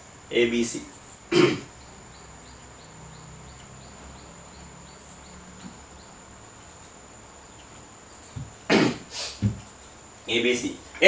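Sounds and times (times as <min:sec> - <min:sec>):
faint insect chirps: 0:00.0 - 0:11.0.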